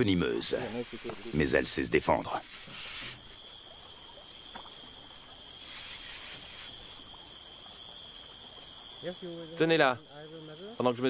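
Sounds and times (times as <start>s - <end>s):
faint pulsing insect call: 0.0s - 11.0s
insect chorus trilling: 0.1s - 11.0s.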